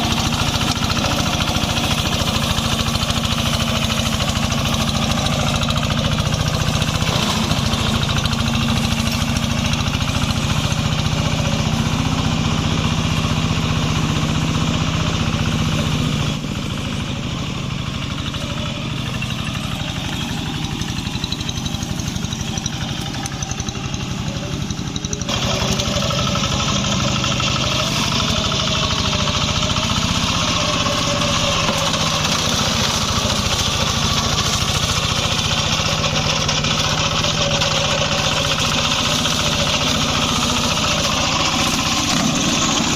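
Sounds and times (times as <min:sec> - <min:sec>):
small engine running: 0:00.0 - 0:42.9.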